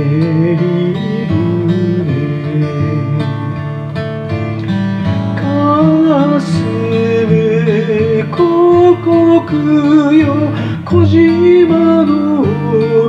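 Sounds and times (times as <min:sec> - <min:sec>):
man singing: 0:00.0 - 0:03.7, 0:05.4 - 0:13.0
acoustic guitar strummed: 0:00.0 - 0:13.0.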